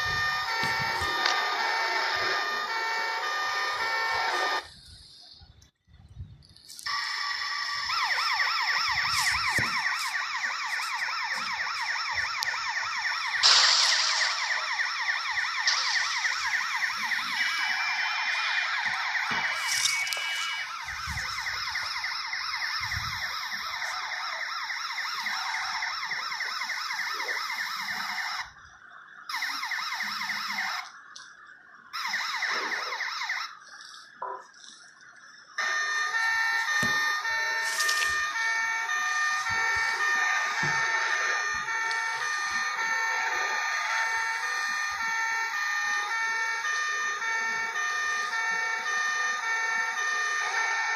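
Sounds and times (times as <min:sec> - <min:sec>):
ambulance siren yelping: 0:00.0 - 0:05.6, 0:06.6 - 0:50.9.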